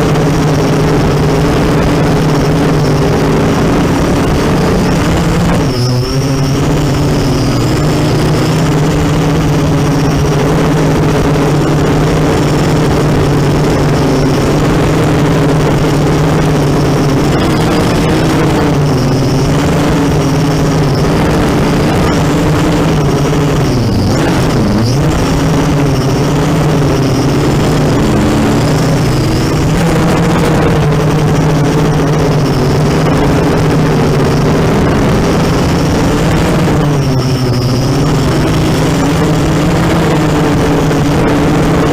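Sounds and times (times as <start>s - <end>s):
drone motors buzzing: 0.0s - 41.9s.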